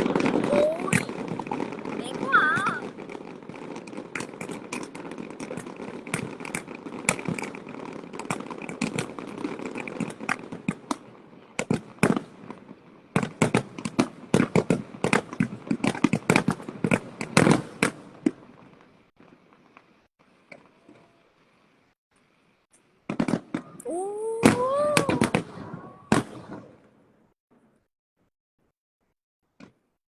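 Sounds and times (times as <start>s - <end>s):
fireworks bangs and crackles: 0.0s - 27.4s.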